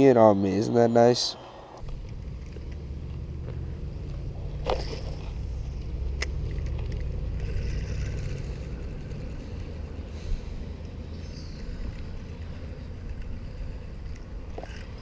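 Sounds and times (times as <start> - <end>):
steady low rumble: 1.4 - 15.0.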